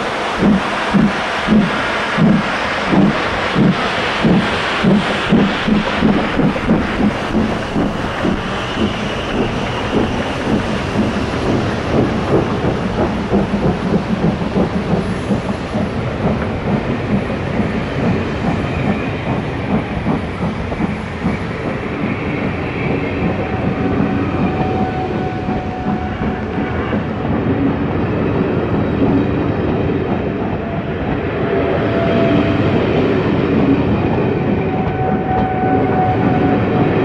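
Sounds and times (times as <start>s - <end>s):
train wheels clattering over rails: 0.0s - 37.0s.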